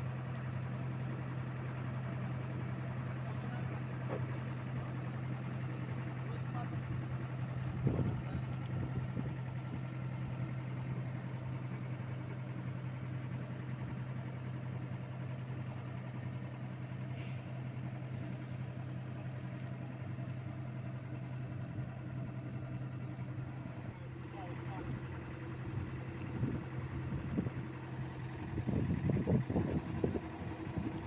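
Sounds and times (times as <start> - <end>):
paving machine engine humming: 0.0 - 31.0.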